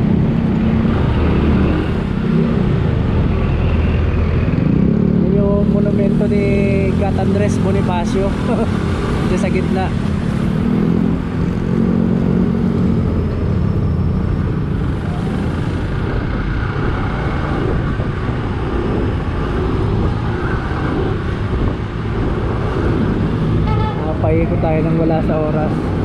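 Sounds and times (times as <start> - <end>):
road noise rush: 0.0 - 26.0.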